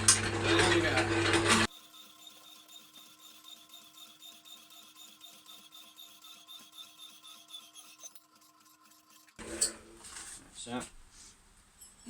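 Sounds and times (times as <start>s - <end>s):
power saw hum: 0.0s - 10.4s.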